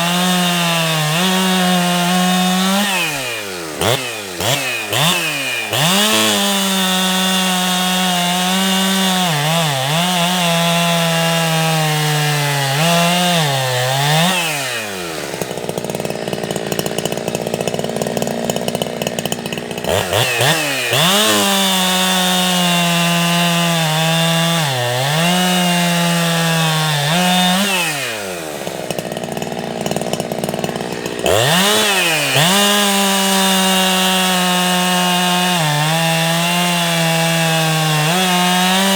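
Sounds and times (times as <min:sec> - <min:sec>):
chainsaw cutting wood: 0:00.0 - 0:38.9
chainsaw idling: 0:00.0 - 0:38.9.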